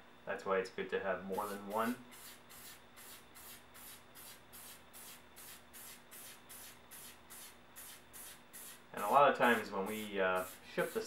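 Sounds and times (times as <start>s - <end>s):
spray can hissing: 1.4s - 11.0s.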